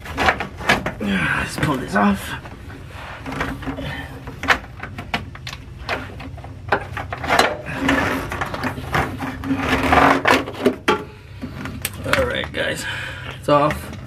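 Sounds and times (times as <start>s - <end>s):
plastic hose rattling and scraping: 0.0s - 14.0s.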